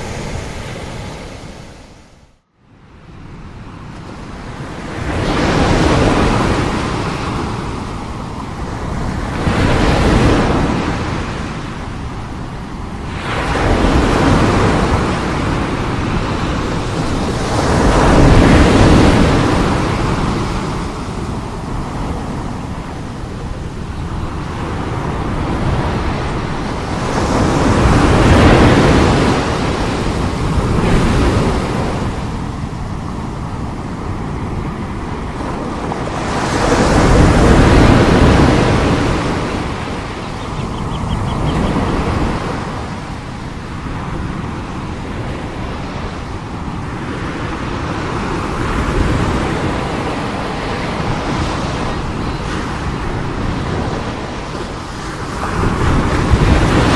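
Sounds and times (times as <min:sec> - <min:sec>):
heavy surf waves breaking: 0:00.0 - 0:56.9.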